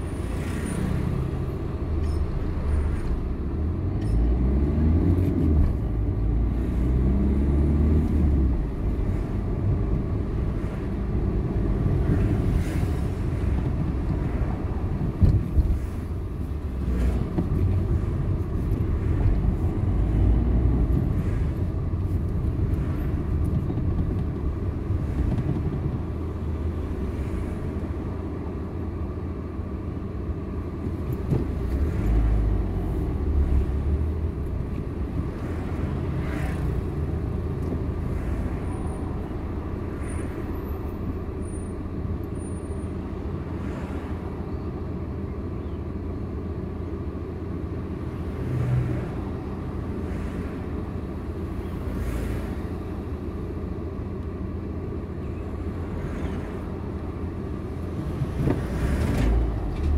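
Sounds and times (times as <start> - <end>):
car engine rumble: 0.0 - 59.9
road noise: 0.0 - 59.9.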